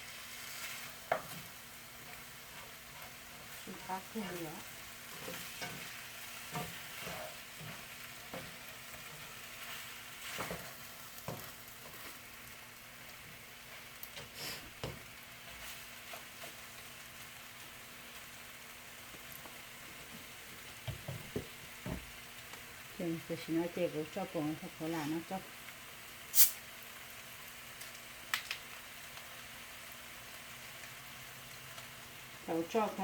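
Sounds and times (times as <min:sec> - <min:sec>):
chicken wings sizzling in a pan: 0:00.0 - 0:33.0.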